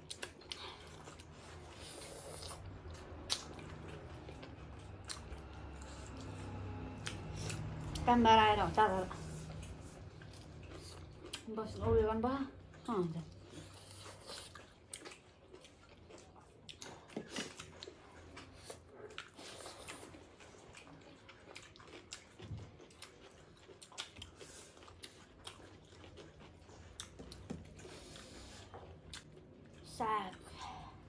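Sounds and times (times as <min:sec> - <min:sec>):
people chewing and lip-smacking: 0:00.0 - 0:11.6, 0:12.6 - 0:31.0.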